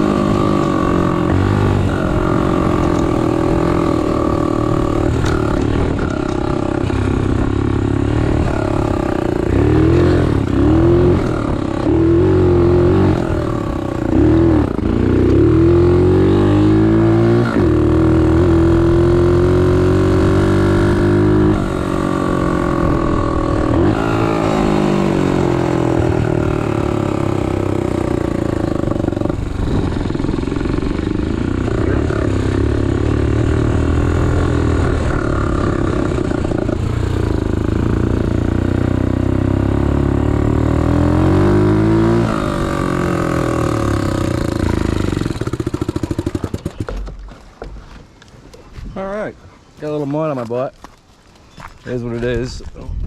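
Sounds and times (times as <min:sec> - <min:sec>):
motorcycle engine revving: 0:00.0 - 0:47.2.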